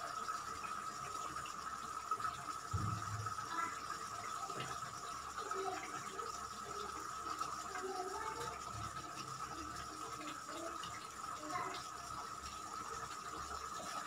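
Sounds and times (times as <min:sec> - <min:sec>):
gravy bubbling in a pot: 0:00.0 - 0:14.0.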